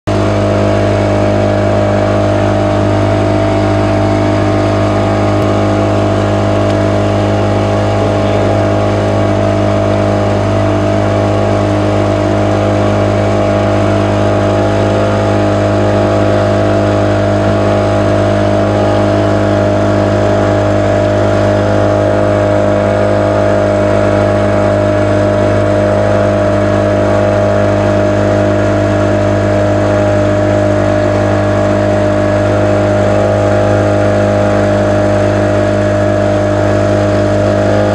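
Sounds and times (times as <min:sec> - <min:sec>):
motorboat engine droning: 0:00.0 - 0:37.9.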